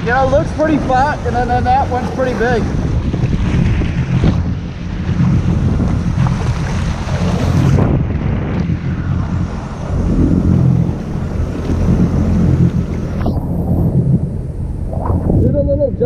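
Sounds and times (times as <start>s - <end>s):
jet ski engine running: 0.0s - 15.9s
waves washing around hull: 0.0s - 16.0s
wind buffeting microphone: 0.0s - 16.0s.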